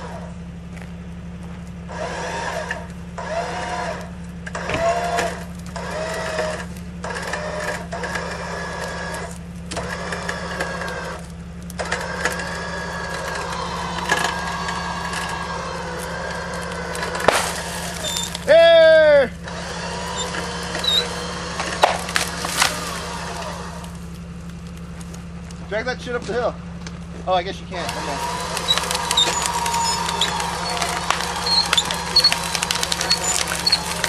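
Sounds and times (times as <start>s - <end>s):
electric winch whining: 0.0s - 0.5s, 1.8s - 25.6s, 27.7s - 34.0s
tree trunk dragging: 0.0s - 18.6s, 19.4s - 26.3s, 27.8s - 34.0s
steady low hum: 0.0s - 34.0s.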